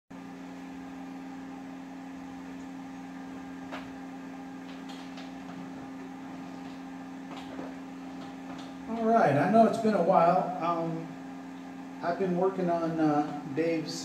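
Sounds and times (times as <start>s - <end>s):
amplifier electrical hum: 0.1s - 14.0s.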